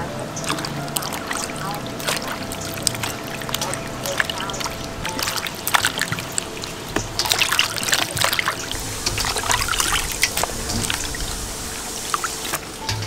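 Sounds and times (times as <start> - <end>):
water splashing and dripping: 0.0 - 13.0.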